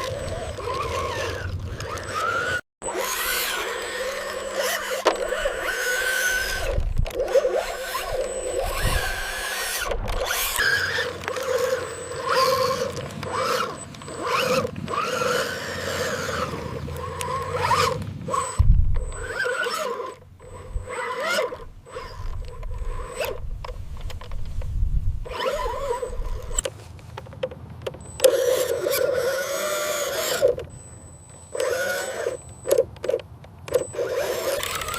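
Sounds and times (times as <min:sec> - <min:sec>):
small electric motors whining: 0:00.0 - 0:26.7, 0:27.9 - 0:34.9.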